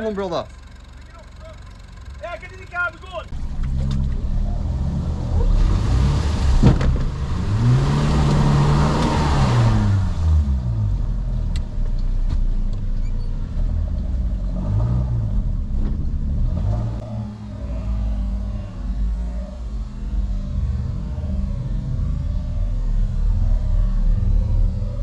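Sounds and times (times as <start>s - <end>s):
engine revving: 0.0s - 12.7s, 13.3s - 25.0s.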